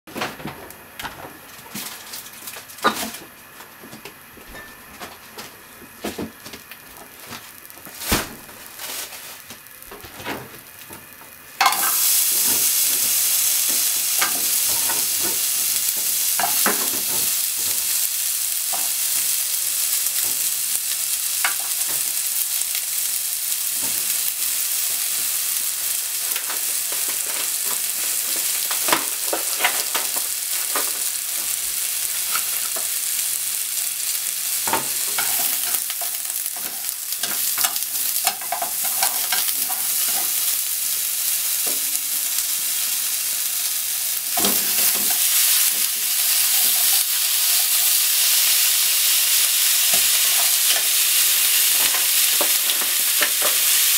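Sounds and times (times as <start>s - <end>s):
onions sizzling in frying pan: 0.2s - 53.9s.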